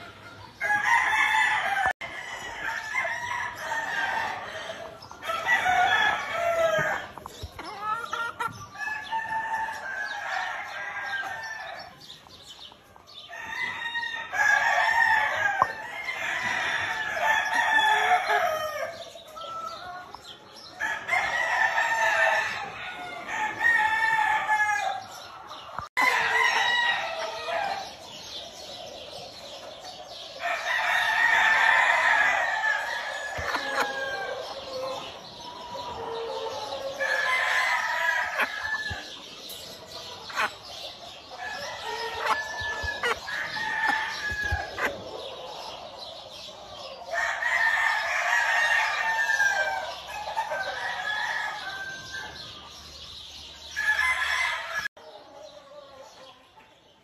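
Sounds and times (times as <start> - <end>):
roosters crowing: 0.0 - 56.2.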